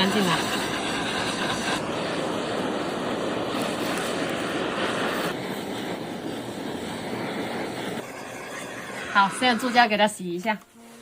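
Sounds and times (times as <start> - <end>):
blowtorch flame roaring: 0.0 - 11.0.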